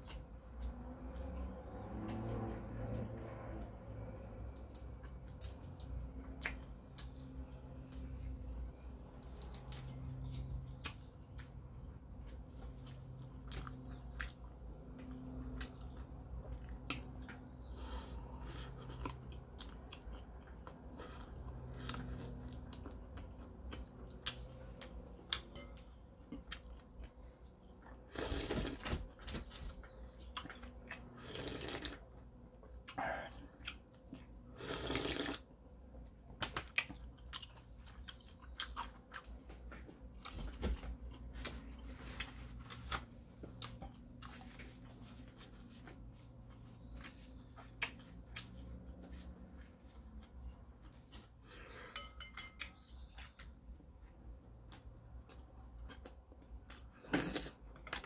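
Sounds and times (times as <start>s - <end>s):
man chewing with wet smacks: 4.2s - 28.9s, 29.5s - 35.4s, 36.0s - 51.4s, 52.6s - 58.0s.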